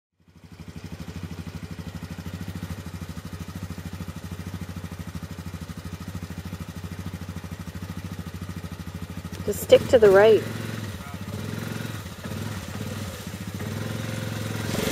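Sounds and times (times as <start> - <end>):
atv engine running steadily: 0.2 - 14.9.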